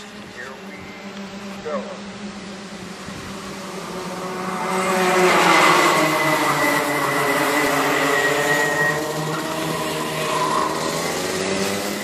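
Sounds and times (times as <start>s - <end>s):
kart engines revving high: 0.0s - 12.0s.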